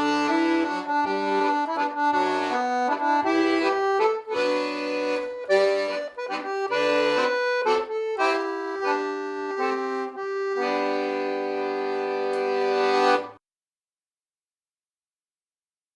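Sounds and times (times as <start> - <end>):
accordion playing chords: 0.0 - 13.4.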